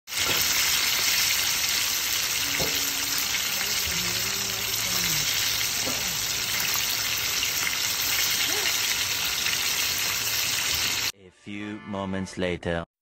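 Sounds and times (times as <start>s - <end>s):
chicken deep-frying in oil: 0.1s - 11.1s.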